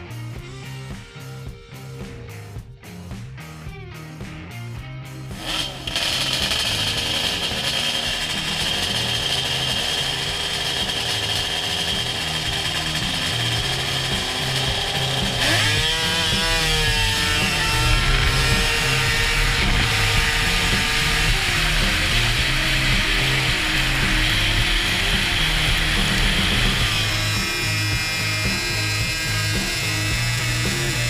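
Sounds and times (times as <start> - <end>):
music bass line: 0.0 - 31.0
snowmobile engine revving: 5.3 - 31.0.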